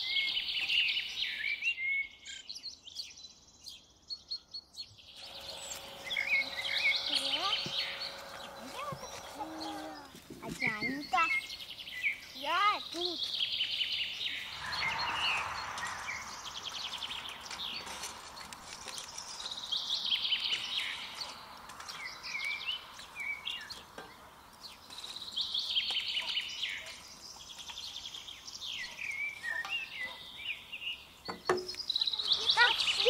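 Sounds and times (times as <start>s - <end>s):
faint outdoor background noise: 0.0s - 33.0s
songbirds chirping and trilling: 0.0s - 33.0s.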